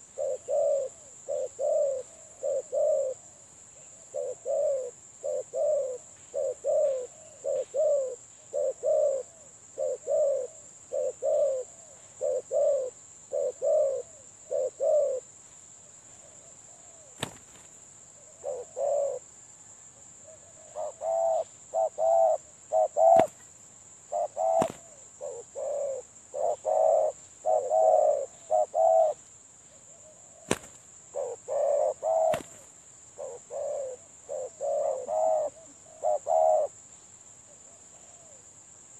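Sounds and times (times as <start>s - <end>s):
doves cooing: 0.0s - 15.3s, 16.2s - 19.3s, 20.2s - 23.5s, 24.1s - 29.2s, 29.9s - 36.8s.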